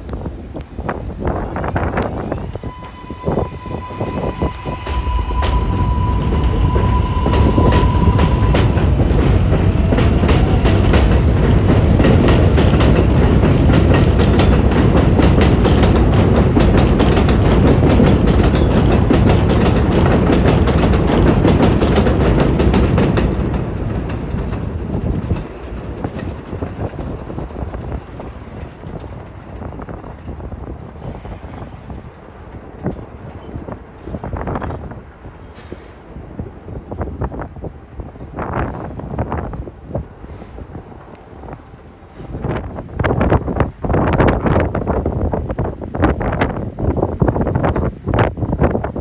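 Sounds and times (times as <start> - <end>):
subway train rumbling past: 0.0 - 49.0
wheels clacking over rail joints: 4.6 - 49.0.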